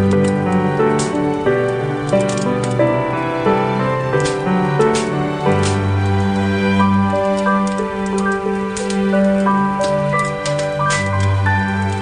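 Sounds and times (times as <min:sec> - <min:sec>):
calm instrumental music: 0:00.0 - 0:12.0.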